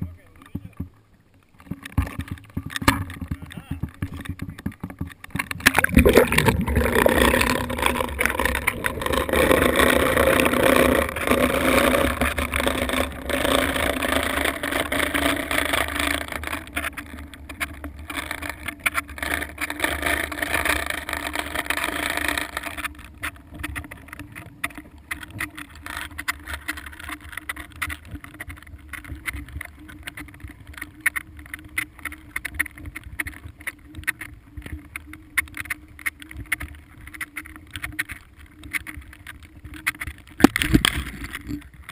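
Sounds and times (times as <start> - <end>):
steady low hum: 0.0 - 35.0
faint crackling and clicks: 0.0 - 41.9
underwater rush of water and bubbles: 0.0 - 41.9.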